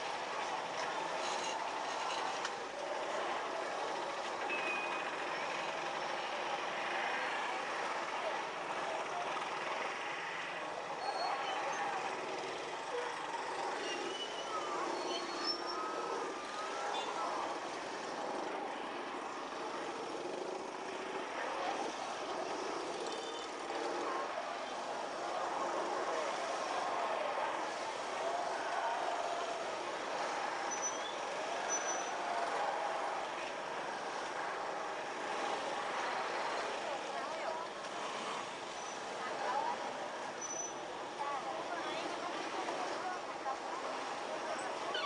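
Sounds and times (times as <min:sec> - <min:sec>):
faint voices: 0:00.0 - 0:45.0
motorbikes and cars passing: 0:00.0 - 0:45.0.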